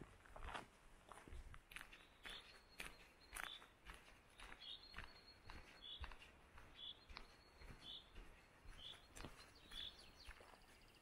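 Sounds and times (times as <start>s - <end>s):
soft footsteps: 0.0s - 11.0s.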